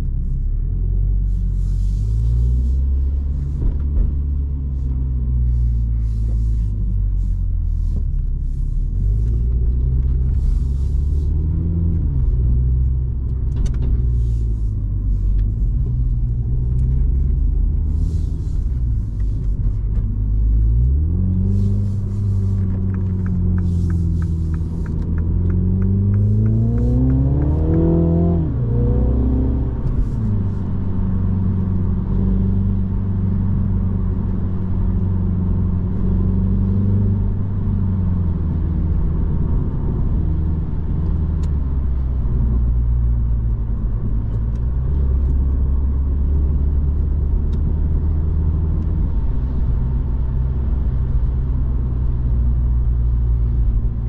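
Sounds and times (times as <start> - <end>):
car engine accelerating: 0.0 - 54.0
tyre and road rumble: 0.0 - 54.0.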